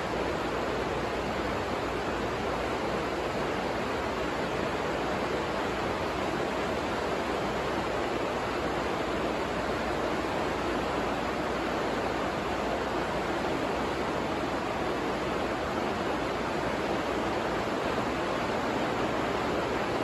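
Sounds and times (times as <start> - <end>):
rain on plastic roof: 0.0 - 20.0.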